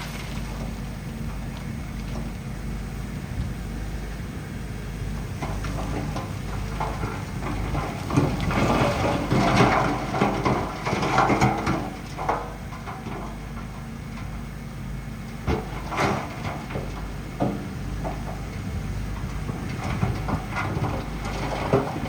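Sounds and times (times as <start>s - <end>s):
bulldozer diesel engine running: 0.0s - 22.0s
steel tracks clanking and scraping: 0.0s - 22.0s.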